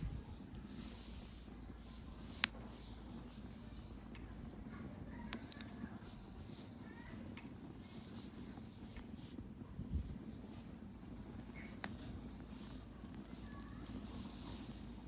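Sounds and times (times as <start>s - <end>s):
bonfire flames rushing: 0.0s - 15.0s
burning wood crackling pops: 0.0s - 15.0s.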